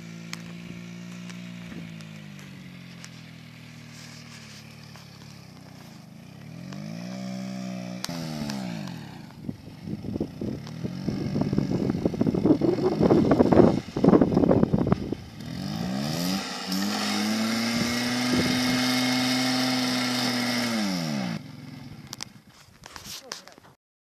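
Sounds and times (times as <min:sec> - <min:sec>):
motorcycle engine passing: 0:00.0 - 0:23.6.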